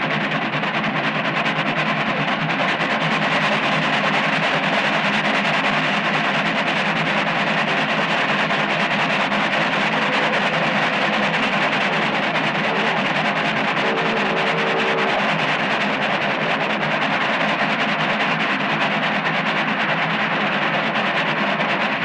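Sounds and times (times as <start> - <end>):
steam train rushing roar: 0.0 - 22.0.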